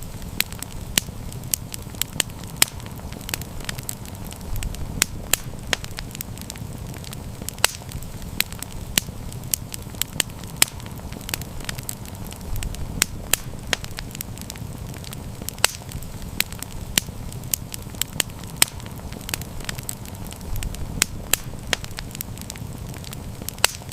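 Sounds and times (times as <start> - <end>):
campfire crackles and pops: 0.0 - 23.9
low rumble of flame: 0.0 - 23.9.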